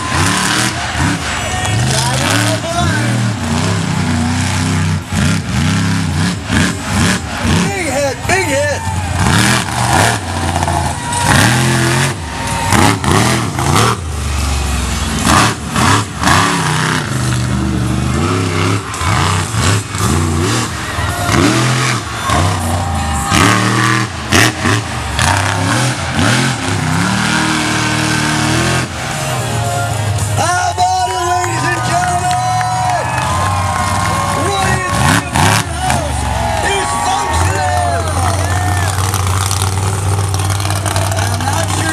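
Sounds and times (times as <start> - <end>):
engine bangs: 0.0 - 41.9
truck engine revving: 0.0 - 41.9.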